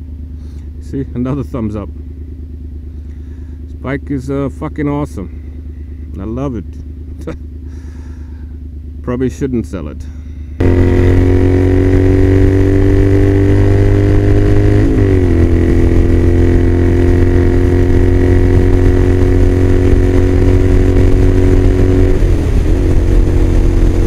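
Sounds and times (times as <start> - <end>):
motorcycle engine at highway speed: 0.0 - 24.0.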